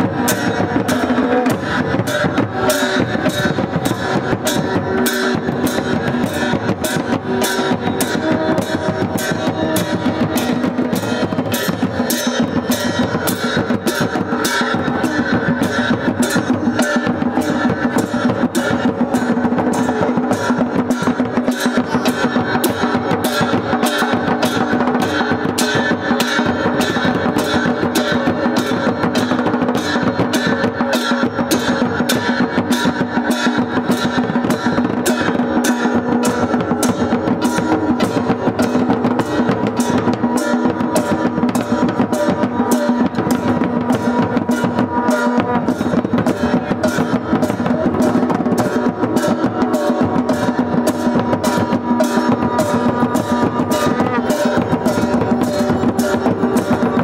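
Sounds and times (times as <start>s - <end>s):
barrel drums beaten with sticks: 0.0s - 57.0s
hand cymbals clashing: 0.0s - 57.0s.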